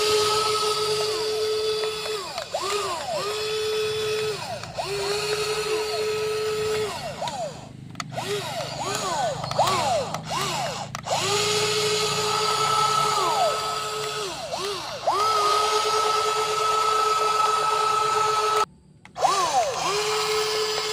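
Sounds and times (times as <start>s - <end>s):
small electric motors whining: 0.0s - 20.9s.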